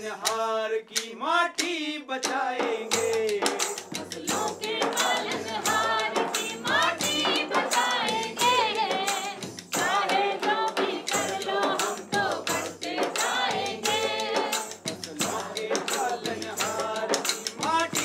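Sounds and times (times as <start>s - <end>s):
jingling hand percussion: 0.0s - 18.0s
men and women singing together: 0.0s - 18.0s.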